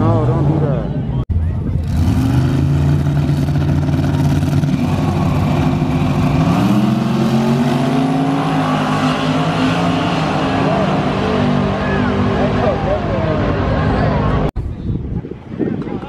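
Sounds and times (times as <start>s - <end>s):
car engines idling and accelerating: 0.0s - 14.6s.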